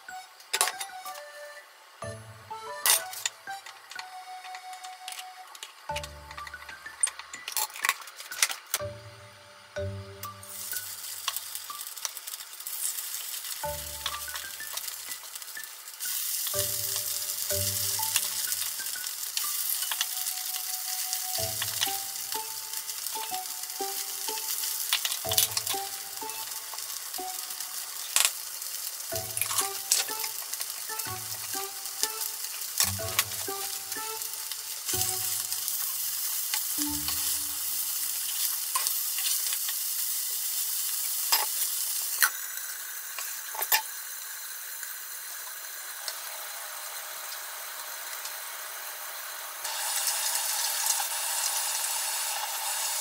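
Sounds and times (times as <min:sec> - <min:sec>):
patties sizzling in hot oil: 0:05.7 - 0:53.0.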